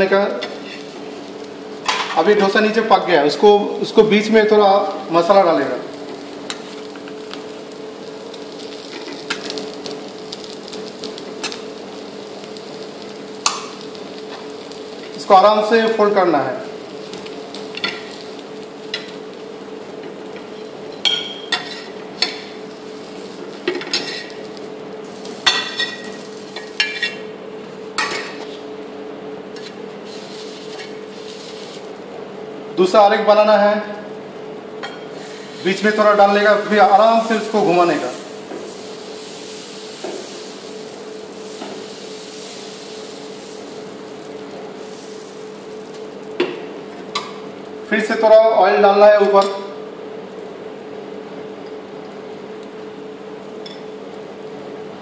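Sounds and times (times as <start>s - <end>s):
gas burner hum and hiss: 0.0s - 55.0s.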